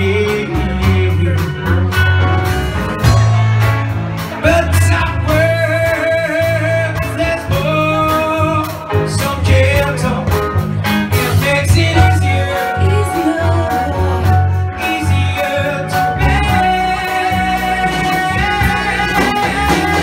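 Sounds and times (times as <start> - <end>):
live soul and blues band: 0.0 - 20.0.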